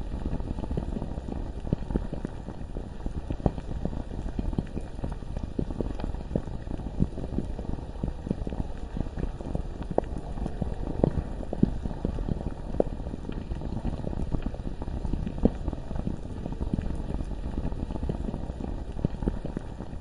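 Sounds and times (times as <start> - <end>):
lava bubbling and popping: 0.0 - 20.0
steady low rumble: 0.0 - 20.0.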